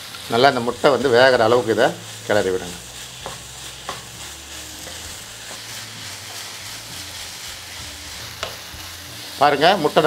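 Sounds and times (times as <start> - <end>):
stir-fry sizzling in a pan: 0.0 - 10.0.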